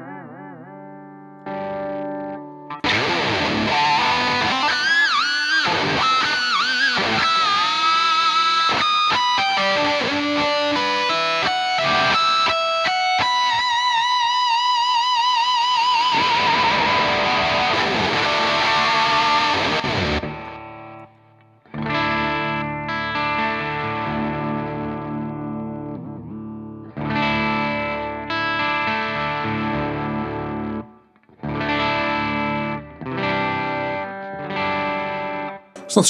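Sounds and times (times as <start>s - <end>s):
distorted electric guitar: 0.0s - 36.0s.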